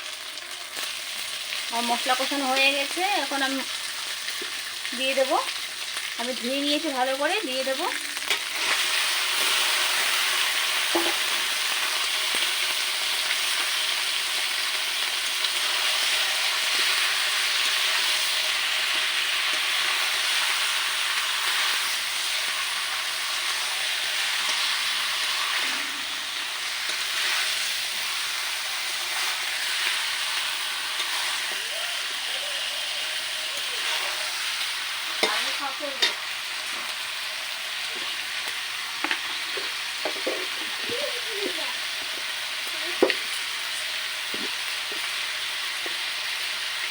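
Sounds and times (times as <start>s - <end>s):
chicken sizzling in hot oil: 0.0s - 46.9s.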